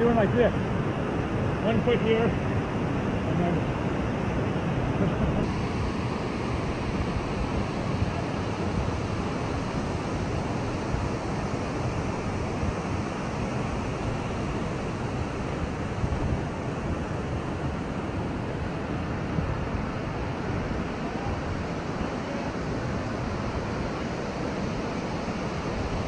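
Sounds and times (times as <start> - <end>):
steady rushing outdoor noise: 0.0 - 26.0.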